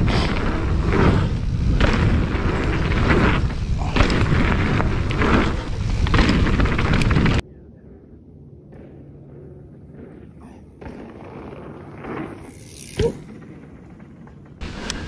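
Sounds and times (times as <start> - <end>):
bike rumbling on trail: 0.0 - 15.0
wind buffeting microphone: 0.0 - 15.0.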